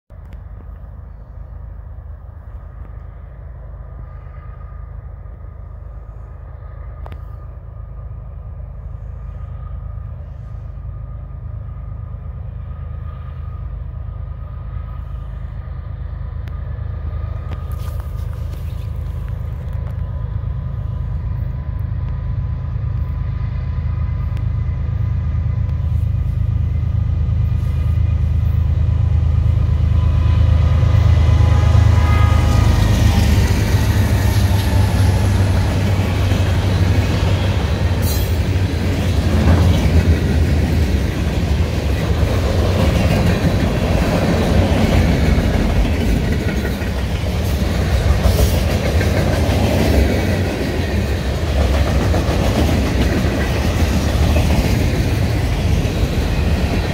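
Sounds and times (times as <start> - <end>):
diesel locomotive engine rumble: 0.1 - 56.9.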